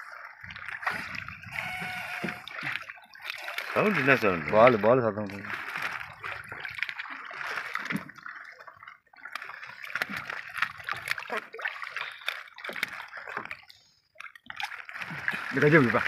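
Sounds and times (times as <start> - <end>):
water splashing against boat: 0.0 - 16.0.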